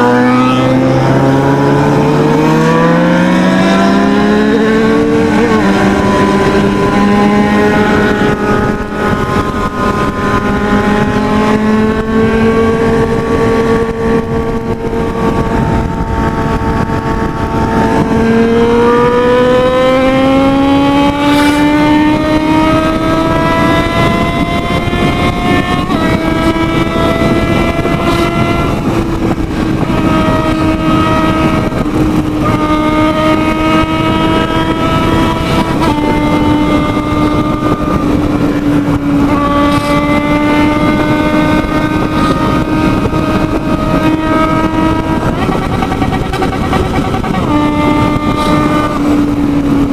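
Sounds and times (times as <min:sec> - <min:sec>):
motorcycle engine accelerating: 0:00.0 - 0:49.9
wind noise: 0:00.0 - 0:49.9.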